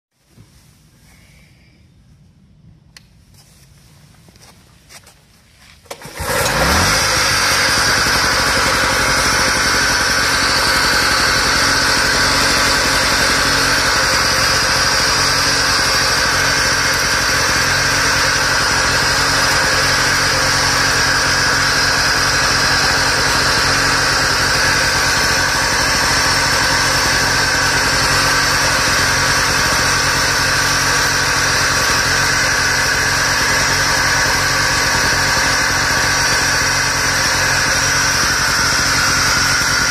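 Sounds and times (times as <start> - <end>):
generator engine running: 5.8 - 39.9.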